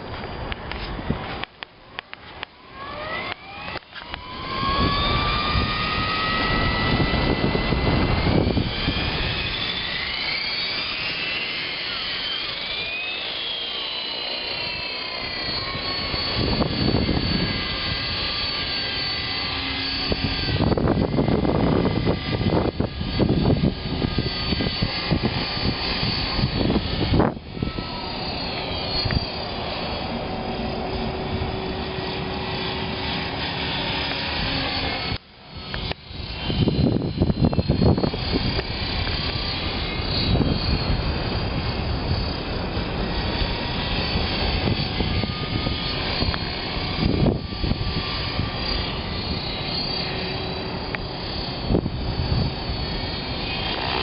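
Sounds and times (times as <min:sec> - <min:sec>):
wind buffeting microphone: 0:00.0 - 0:01.4, 0:04.0 - 0:12.9, 0:14.5 - 0:54.0
rc helicopter rotor whine: 0:00.0 - 0:54.0.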